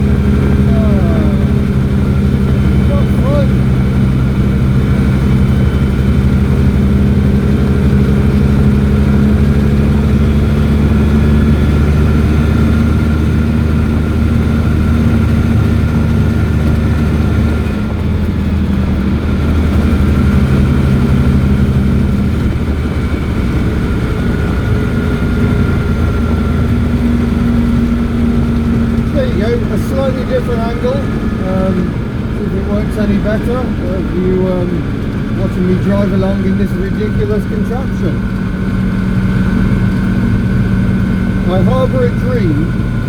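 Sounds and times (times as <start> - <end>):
small engine buzzing: 0.0 - 43.0.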